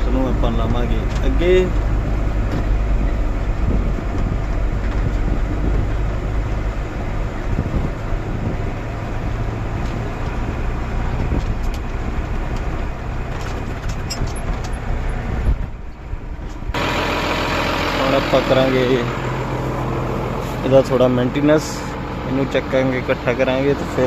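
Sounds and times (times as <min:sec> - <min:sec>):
farm vehicle engine running: 0:00.0 - 0:24.0.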